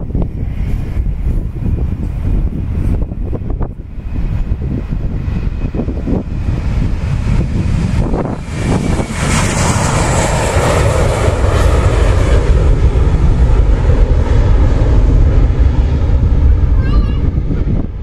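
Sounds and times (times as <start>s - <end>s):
deep rumble: 0.0s - 18.0s
jet engines roaring at takeoff: 0.0s - 18.0s.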